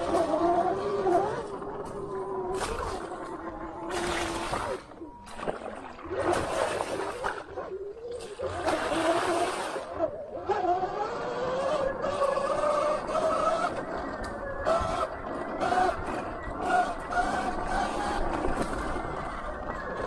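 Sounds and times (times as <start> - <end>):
electric dirt bike motor whining: 0.0 - 5.2, 5.8 - 20.0.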